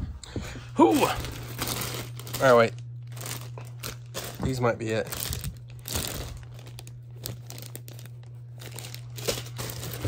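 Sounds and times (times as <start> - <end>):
plastic bag crinkling: 0.8 - 10.0.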